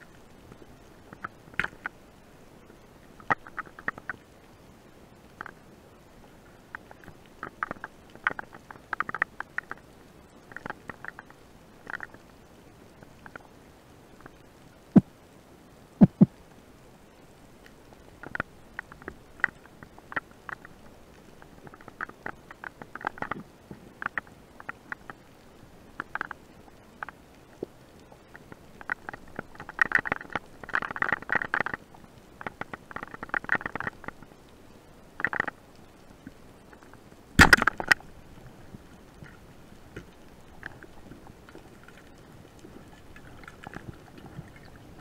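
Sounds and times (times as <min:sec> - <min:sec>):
underwater clicks and crackles: 0:00.0 - 0:15.1, 0:16.0 - 0:16.6, 0:17.5 - 0:45.0.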